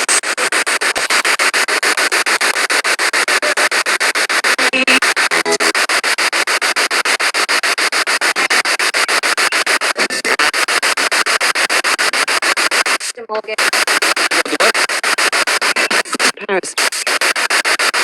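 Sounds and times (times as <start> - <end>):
radio static chopping: 0.0 - 18.0
snatches of broadcast voice: 0.0 - 18.0.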